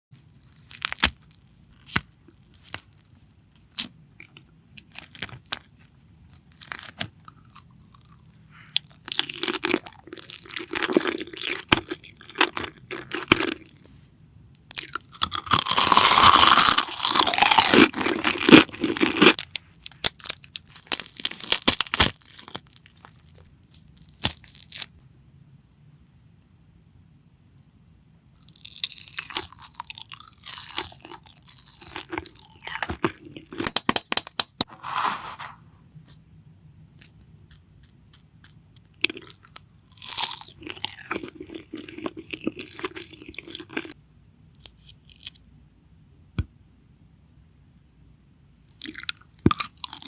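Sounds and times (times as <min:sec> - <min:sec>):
boiled eggs crunching and crackling: 0:00.2 - 0:13.9, 0:14.6 - 0:25.0, 0:28.4 - 0:35.5, 0:37.0 - 0:45.5, 0:48.7 - 0:50.0.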